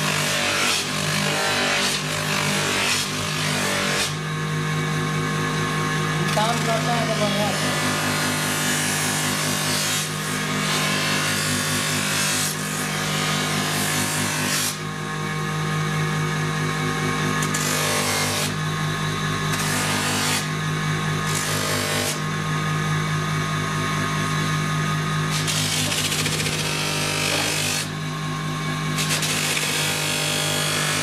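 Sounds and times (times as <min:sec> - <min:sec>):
buffing motor running: 0:03.3 - 0:10.8, 0:11.6 - 0:31.0.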